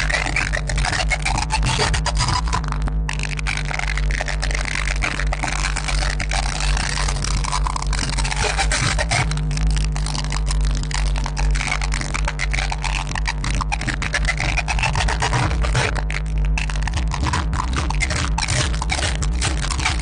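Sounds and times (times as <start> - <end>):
loud bass-heavy music: 0.0 - 20.0.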